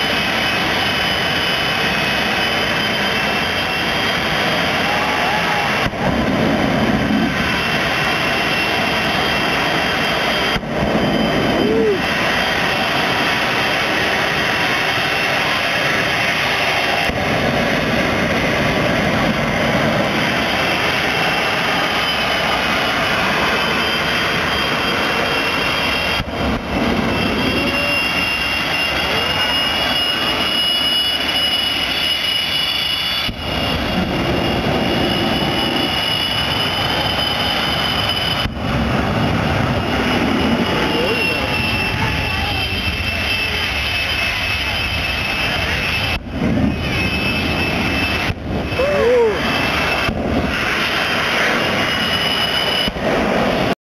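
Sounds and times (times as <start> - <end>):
jet turbine engine roaring: 0.0 - 53.8.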